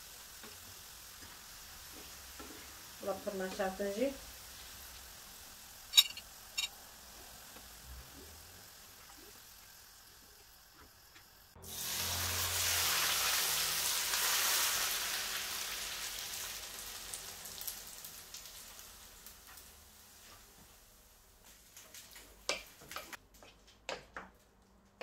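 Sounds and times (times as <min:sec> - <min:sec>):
hot oil sizzling and crackling: 0:00.0 - 0:23.2.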